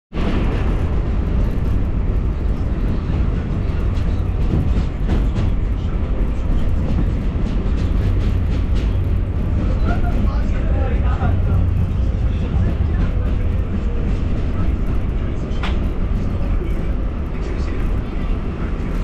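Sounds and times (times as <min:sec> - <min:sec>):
subway car rumble: 0:00.1 - 0:19.0.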